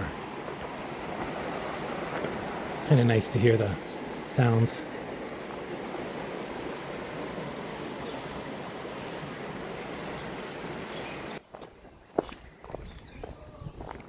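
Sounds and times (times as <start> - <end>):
footsteps on trail: 0.0 - 2.9, 3.6 - 14.0
stream rushing water: 0.0 - 11.4.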